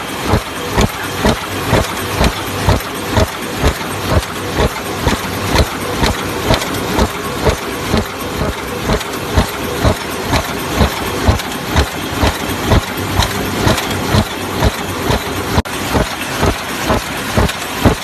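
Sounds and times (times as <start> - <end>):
machine clattering: 0.0 - 18.0
machine thumping: 0.0 - 18.0.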